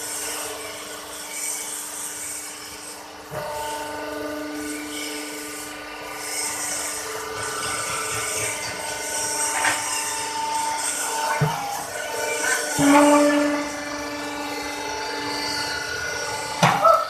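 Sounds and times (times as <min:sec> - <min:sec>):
hydraulic pump whine: 0:00.0 - 0:17.0.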